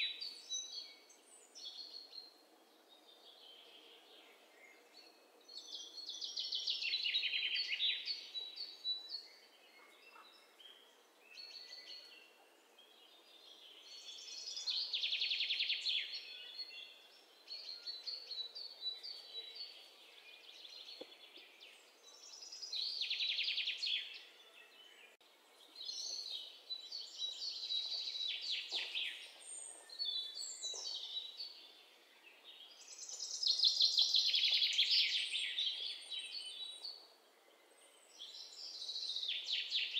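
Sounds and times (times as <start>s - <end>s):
songbirds trilled chirping: 0.0s - 39.9s.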